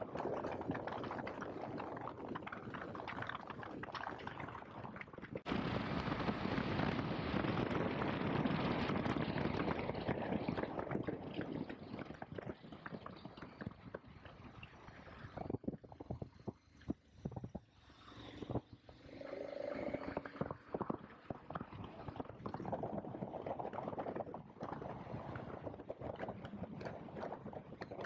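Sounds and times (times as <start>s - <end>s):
wind rush on microphone: 0.0s - 17.7s, 18.3s - 28.0s.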